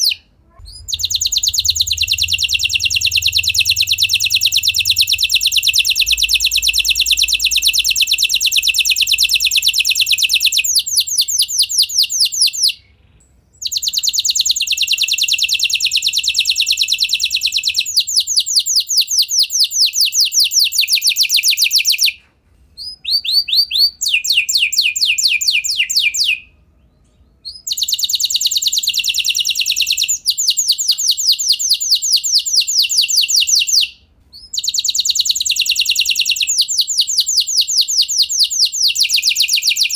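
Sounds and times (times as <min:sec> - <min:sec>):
canary singing rapid trills: 0:00.0 - 0:13.0, 0:13.6 - 0:22.1, 0:27.4 - 0:39.9.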